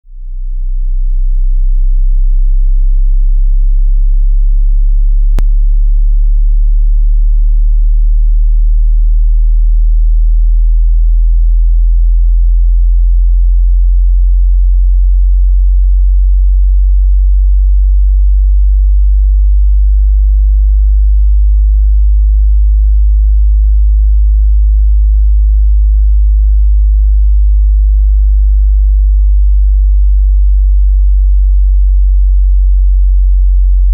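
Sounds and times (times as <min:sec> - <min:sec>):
loud sub-bass sine tone: 0:00.0 - 0:33.9.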